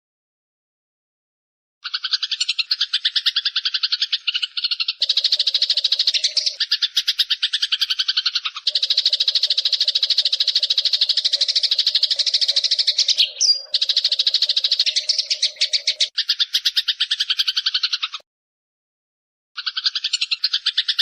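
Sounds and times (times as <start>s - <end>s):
sparrow chattering: 1.8s - 18.2s, 19.6s - 21.0s.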